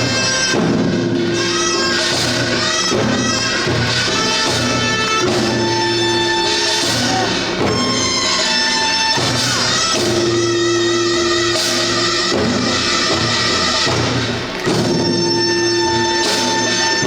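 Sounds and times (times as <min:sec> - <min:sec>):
repeated drum strokes: 0:00.0 - 0:17.0
sliding held melody notes: 0:00.1 - 0:17.0.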